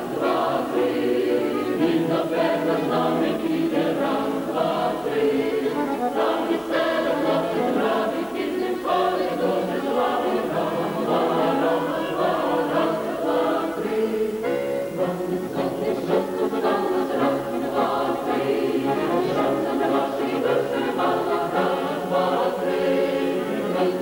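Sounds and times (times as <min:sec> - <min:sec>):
folk choir singing: 0:00.0 - 0:24.0.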